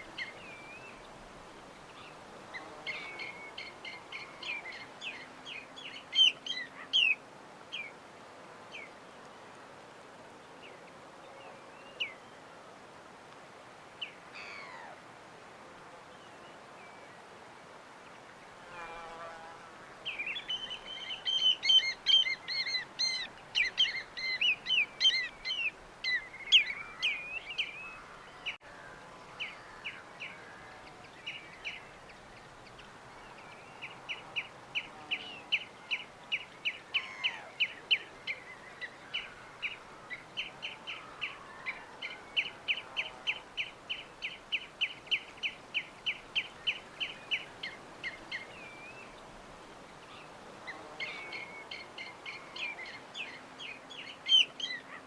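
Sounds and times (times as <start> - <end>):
songbird chirping: 0.0 - 8.0, 18.0 - 55.0
faint steady hiss: 0.0 - 55.0.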